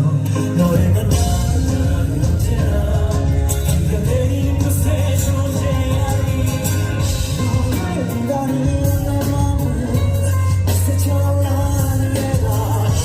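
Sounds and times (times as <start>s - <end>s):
drums with cymbals: 0.0s - 13.0s
heavy bass line: 0.0s - 13.0s
person singing: 0.0s - 13.0s.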